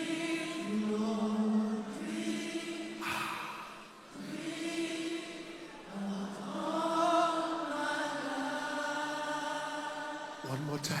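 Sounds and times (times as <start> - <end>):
congregation singing unaccompanied: 0.0 - 11.0.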